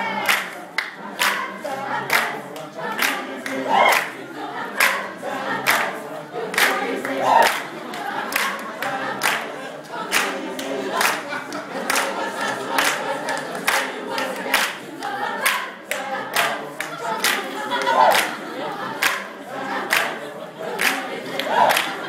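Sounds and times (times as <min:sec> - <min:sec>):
mixed choir singing a cappella: 0:00.0 - 0:22.0.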